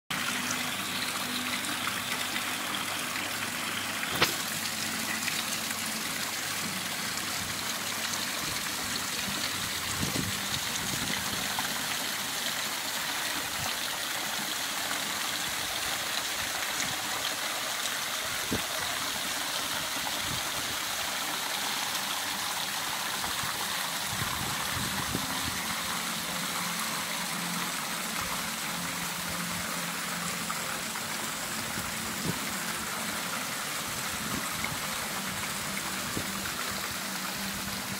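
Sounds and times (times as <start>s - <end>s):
waterfall splashing into pool: 0.1s - 37.9s.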